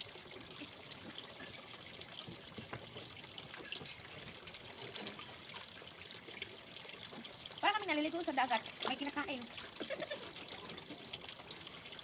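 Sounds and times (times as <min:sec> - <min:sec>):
small water drips: 0:00.0 - 0:12.0
water trickling and splashing: 0:00.0 - 0:12.0.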